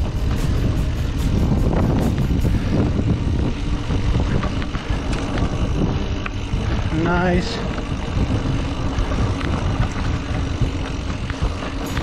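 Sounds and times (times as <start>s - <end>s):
bike clicks and rattles: 0.0s - 12.0s
mountain bike riding rumble: 0.0s - 12.0s.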